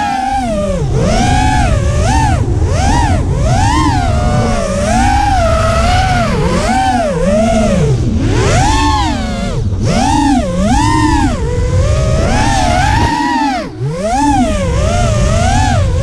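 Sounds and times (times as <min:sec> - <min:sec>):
quadcopter motors whining: 0:00.0 - 0:16.0
wind rumble on microphone: 0:00.0 - 0:16.0.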